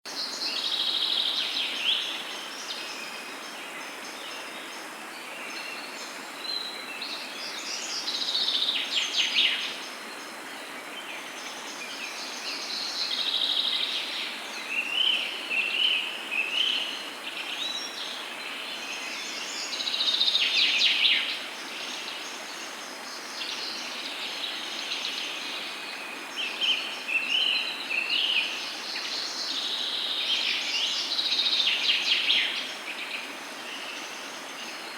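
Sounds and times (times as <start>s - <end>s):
steady background hiss: 0.1s - 34.9s.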